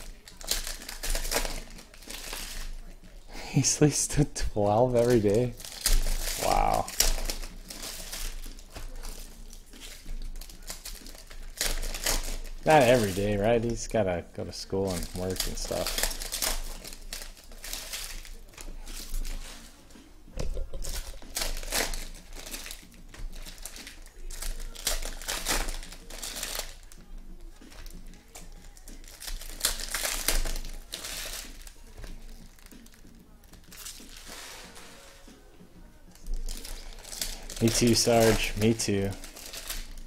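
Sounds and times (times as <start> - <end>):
packs being torn open: 0.0 - 19.7, 20.5 - 34.9, 36.1 - 40.0
foil wrappers crinkling: 0.0 - 40.0.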